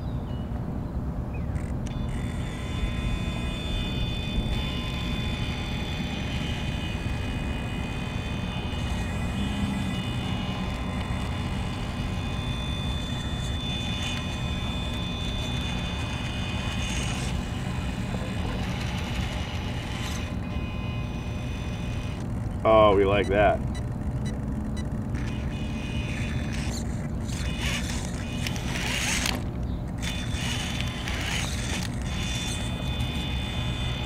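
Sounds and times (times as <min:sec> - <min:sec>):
electric motor and gears whining: 0:01.4 - 0:34.0.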